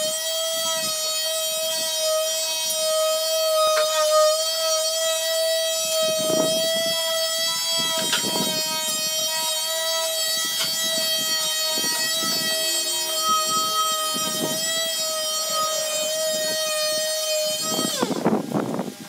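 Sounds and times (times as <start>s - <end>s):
orbital sander whining: 0.0s - 19.0s
sander rasping on wood: 0.0s - 19.0s.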